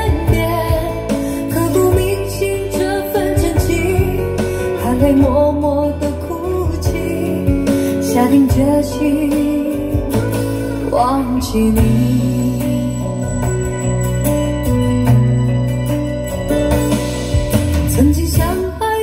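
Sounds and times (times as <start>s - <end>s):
pop ballad over speakers: 0.0s - 19.0s.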